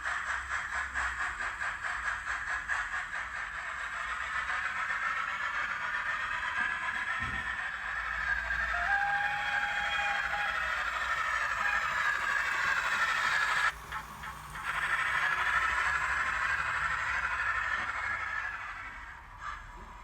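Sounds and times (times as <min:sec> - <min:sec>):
model steam locomotive hissing and rattling: 0:00.0 - 0:20.0.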